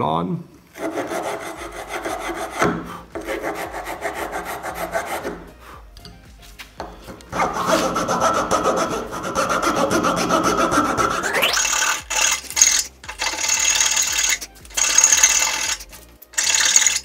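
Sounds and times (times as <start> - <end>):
file rasping on wood: 0.8 - 5.6, 7.3 - 17.0.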